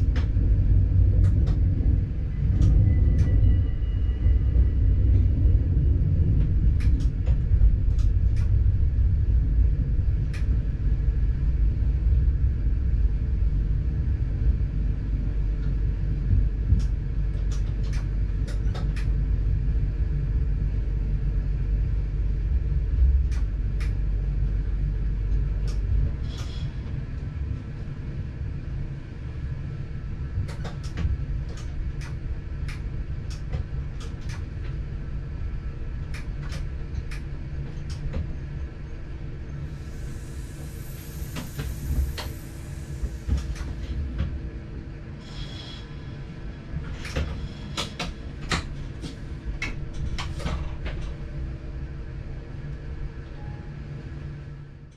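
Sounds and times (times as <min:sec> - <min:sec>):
train low rumble: 0:00.0 - 0:54.9.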